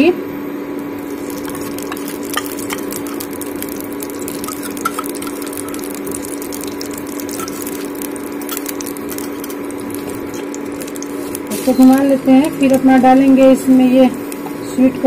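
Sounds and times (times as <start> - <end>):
steady hum: 0.0 - 15.0
faint crackling of melting fat: 0.7 - 15.0
spoon stirring in a pan: 1.0 - 14.6.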